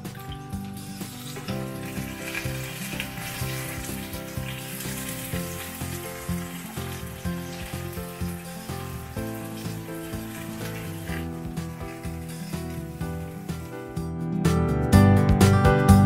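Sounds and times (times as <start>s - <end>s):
meat sizzling in oil: 0.0s - 14.0s
background music: 0.0s - 16.0s.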